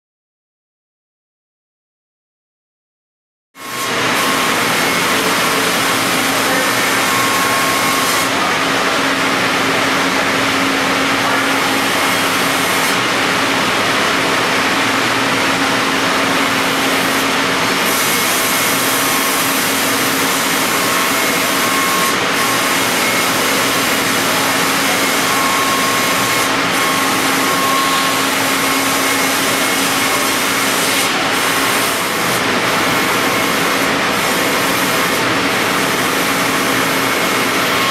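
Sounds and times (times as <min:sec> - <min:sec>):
cnc router cutting foam: 0:03.6 - 0:37.9.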